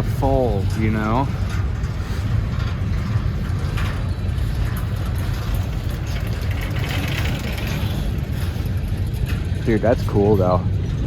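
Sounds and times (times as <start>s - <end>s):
diesel train engine rumble: 0.0s - 11.0s.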